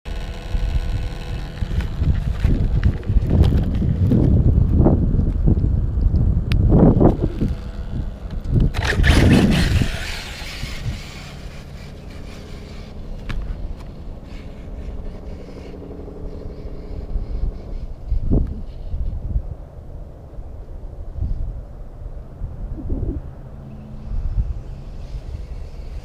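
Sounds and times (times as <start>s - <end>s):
rc car passing and humming: 0.1s - 26.0s
wind rumble on microphone: 0.1s - 26.0s.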